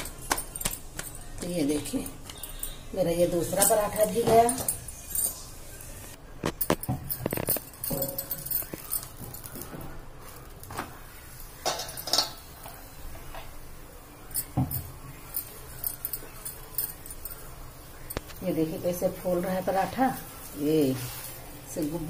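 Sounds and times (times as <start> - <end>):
bangles clinking: 0.0 - 13.0, 14.2 - 22.0.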